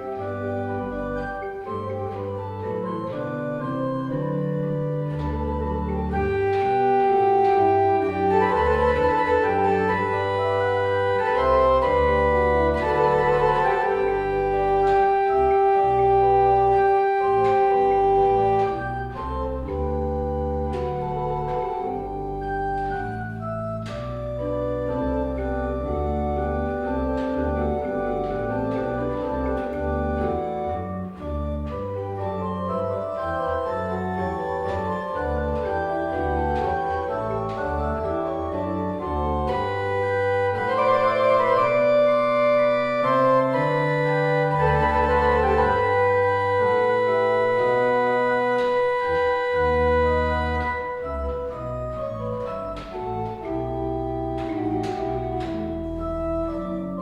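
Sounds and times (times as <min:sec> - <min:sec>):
organ chords with moving bass: 0:00.0 - 0:57.0.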